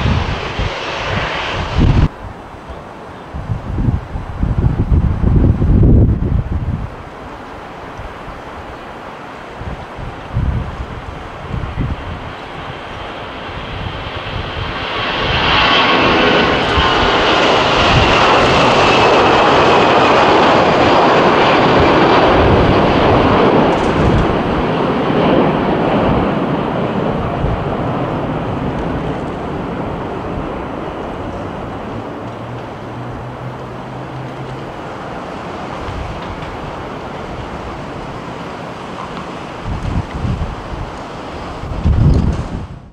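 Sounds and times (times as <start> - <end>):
jet engine whine: 0.0 - 42.9
jet engines roaring at takeoff: 0.0 - 42.9.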